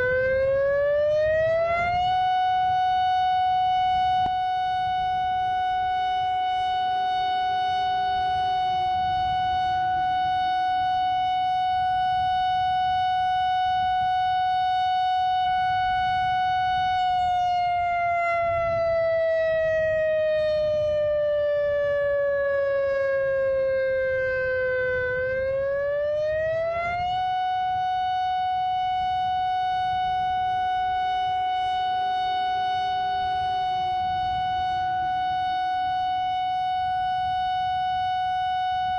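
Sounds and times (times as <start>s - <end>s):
warning siren: 0.0s - 38.9s.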